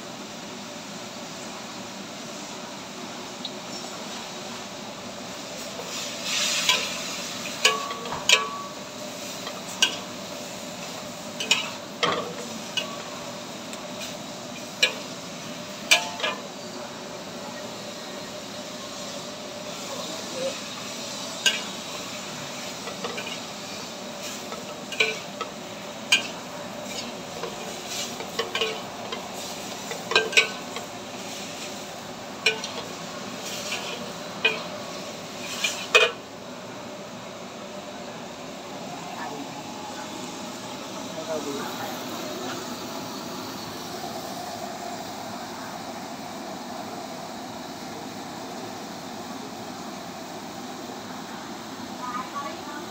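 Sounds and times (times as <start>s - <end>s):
stir-fry sizzling: 0.0s - 52.9s.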